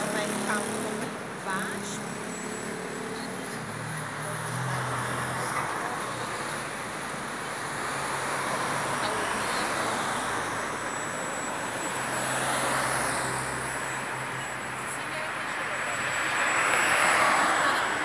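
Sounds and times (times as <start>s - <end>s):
traffic rushing: 0.0s - 18.0s.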